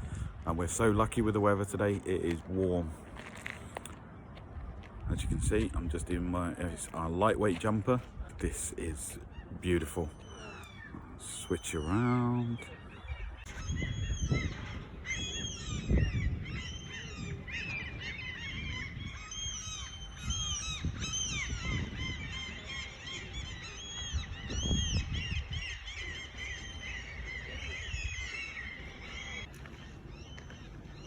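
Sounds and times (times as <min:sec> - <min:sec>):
birds chirping: 0:00.0 - 0:31.0
wind buffeting microphone: 0:00.0 - 0:31.0.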